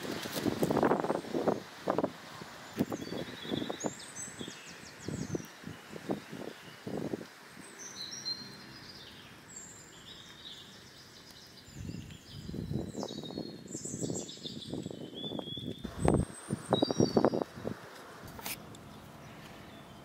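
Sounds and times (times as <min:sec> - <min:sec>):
small birds chirping: 0:00.6 - 0:20.0.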